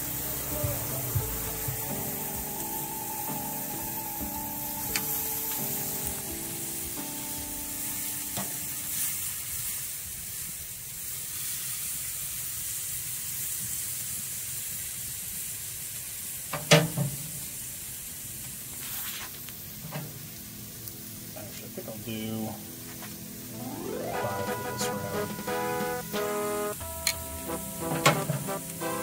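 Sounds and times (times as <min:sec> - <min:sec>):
steaks sizzling on a grill: 0:00.0 - 0:23.6, 0:26.8 - 0:29.0.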